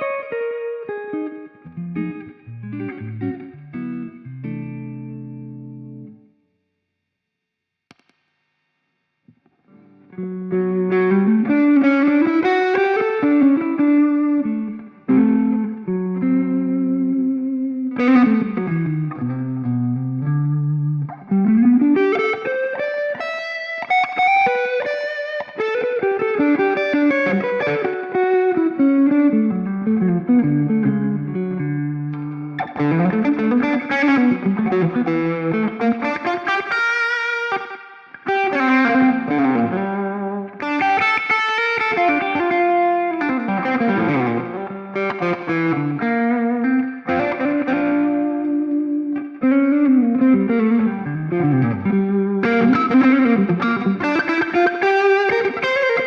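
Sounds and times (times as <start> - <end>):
distorted electric guitar lead: 0.0 - 6.2, 9.7 - 56.0.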